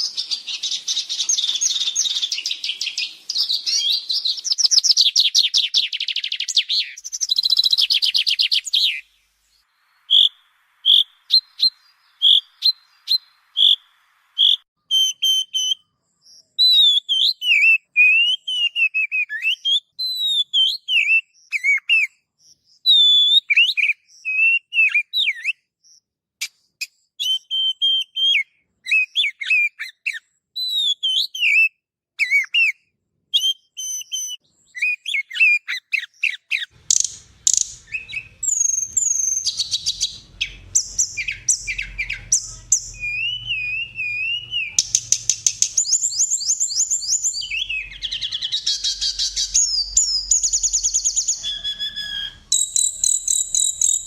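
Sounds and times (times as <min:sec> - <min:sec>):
songbird chattering trill: 0:00.0 - 0:09.1, 0:10.0 - 0:25.5, 0:33.6 - 0:54.0
songbird whistled notes: 0:00.0 - 0:25.6, 0:27.2 - 0:32.8, 0:33.4 - 0:54.0.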